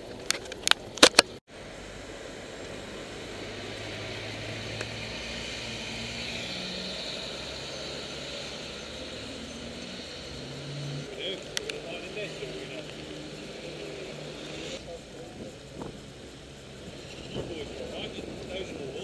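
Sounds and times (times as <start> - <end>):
low engine hum: 1.5 - 19.0
tyres hissing on wet road: 1.5 - 19.0.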